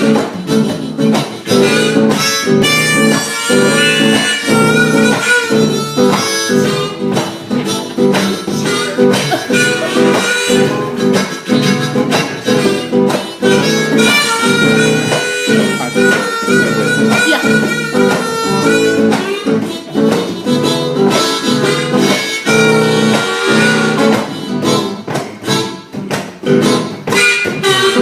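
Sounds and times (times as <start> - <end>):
acoustic guitar strumming: 0.0 - 28.0
drums keeping the beat: 0.0 - 28.0
lead melody line: 0.0 - 28.0.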